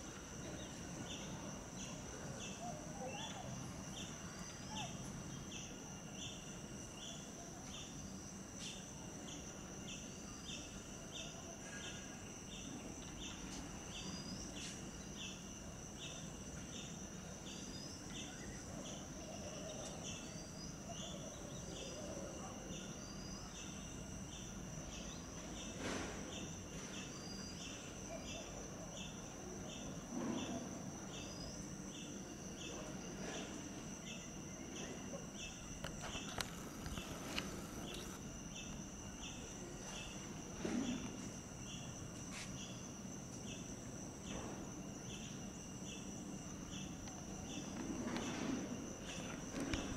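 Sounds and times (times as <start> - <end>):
high-pitched insect whine: 0.0 - 49.9
insect chirping: 0.0 - 49.9.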